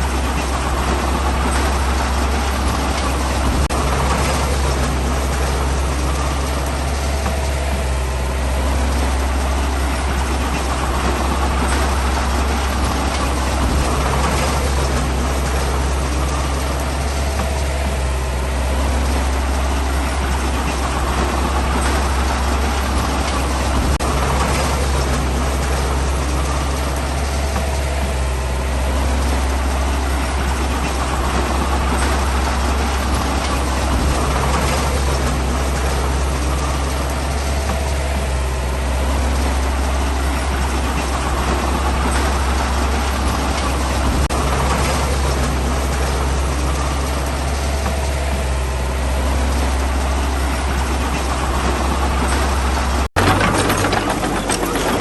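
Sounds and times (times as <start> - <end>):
diesel engine rumbling and clattering: 0.0 - 55.0.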